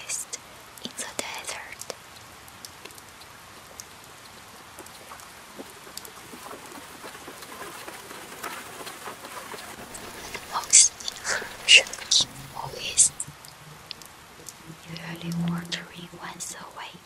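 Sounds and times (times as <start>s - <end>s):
water drops pattering on leaves: 0.0s - 17.0s.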